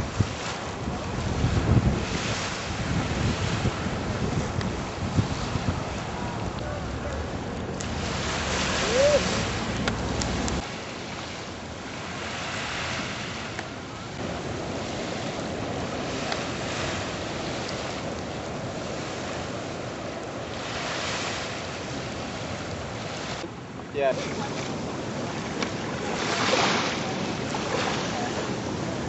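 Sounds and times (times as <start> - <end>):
ocean surf breaking: 0.0 - 29.0
wind rumbling on microphone: 0.0 - 29.0.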